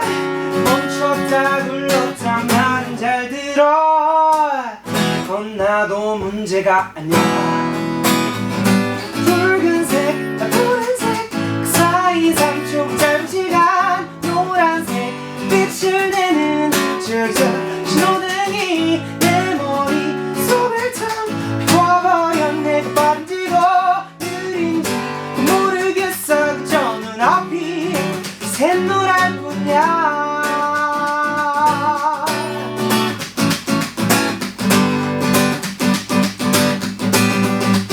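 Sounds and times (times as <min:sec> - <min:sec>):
man singing: 0:00.0 - 0:32.9
acoustic guitar strumming: 0:00.0 - 0:37.9.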